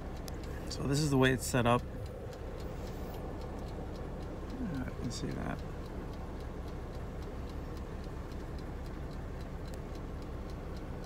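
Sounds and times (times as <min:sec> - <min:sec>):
oven timer ticking: 0:00.0 - 0:11.0
steady low hum: 0:00.0 - 0:11.0.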